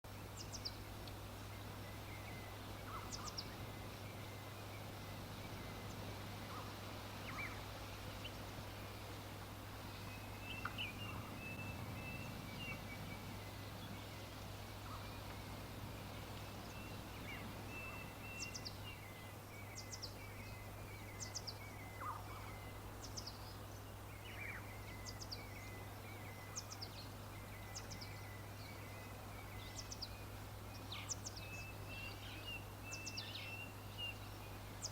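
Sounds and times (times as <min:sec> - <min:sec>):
background hiss: 0:00.0 - 0:34.9
birds chirping: 0:00.1 - 0:34.9.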